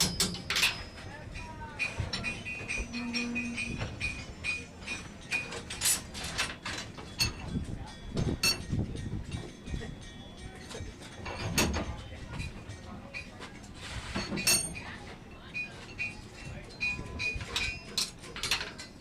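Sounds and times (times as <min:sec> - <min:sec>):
faint voices: 0:00.0 - 0:19.0.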